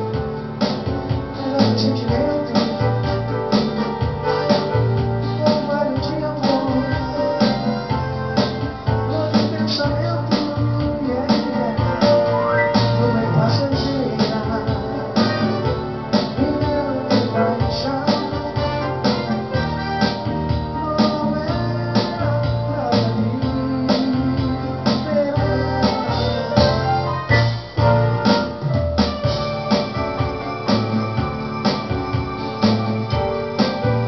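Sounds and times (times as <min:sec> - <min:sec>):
bass: 0:00.0 - 0:34.0
keyboard instrumental music: 0:00.0 - 0:34.0
steady beat: 0:00.0 - 0:34.0.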